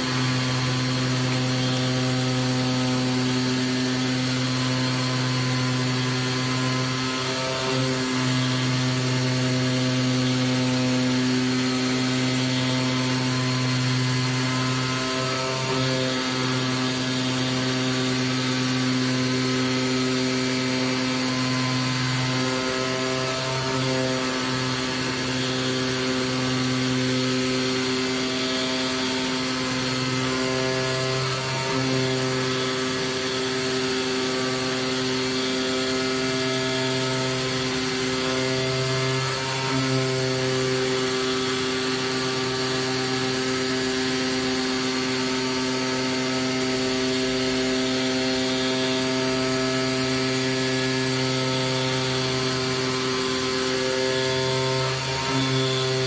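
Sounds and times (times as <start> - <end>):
cutting machine hum: 0.0 - 56.0.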